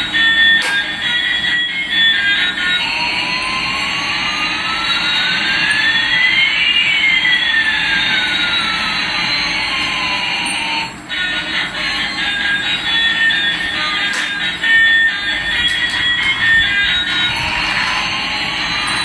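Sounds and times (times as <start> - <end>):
toy electronic jet engine sound: 0.0 - 19.0.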